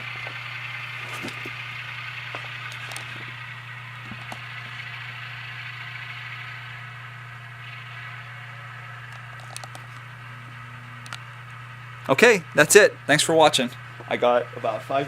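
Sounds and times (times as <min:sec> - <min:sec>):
diesel engine through small speaker: 0:00.0 - 0:15.0.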